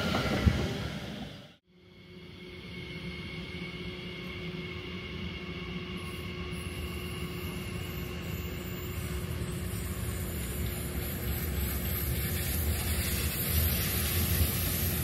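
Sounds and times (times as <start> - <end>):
train rumble: 0.0 - 1.6, 3.0 - 15.0.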